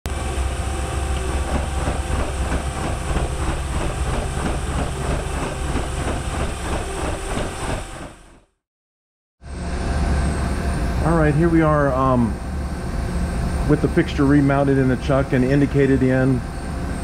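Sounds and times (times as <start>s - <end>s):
steady machine hum: 0.1s - 8.2s, 9.4s - 17.0s.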